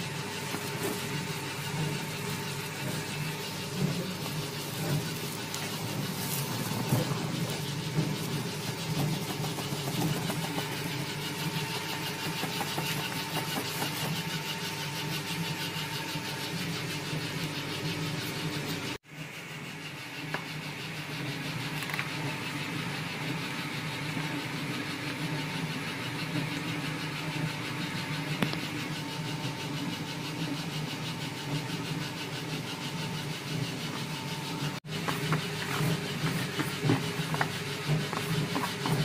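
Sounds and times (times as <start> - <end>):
machine motor humming: 0.0 - 39.0.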